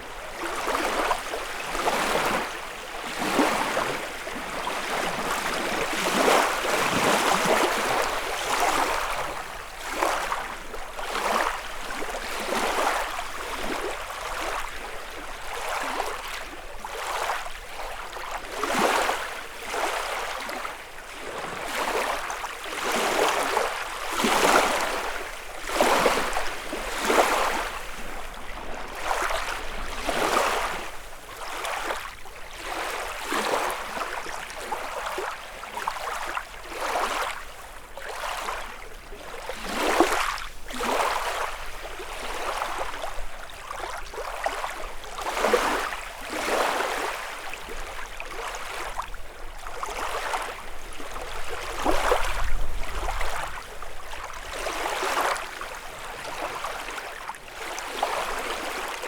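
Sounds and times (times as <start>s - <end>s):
lake waves lapping on shore: 0.0s - 59.0s.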